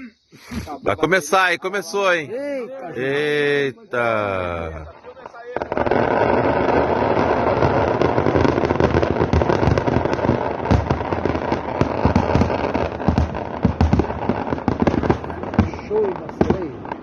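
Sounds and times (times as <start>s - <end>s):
fireworks crackling: 0.4s - 17.0s
fireworks bangs: 3.0s - 17.0s.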